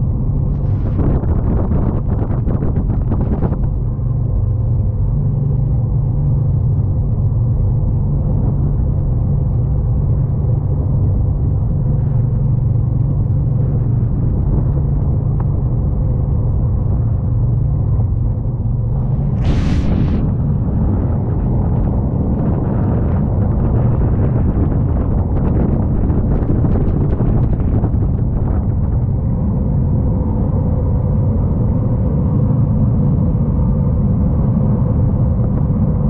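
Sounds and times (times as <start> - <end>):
rushing air and water: 0.0 - 4.2, 10.5 - 36.0
boat engine drone: 0.0 - 36.0.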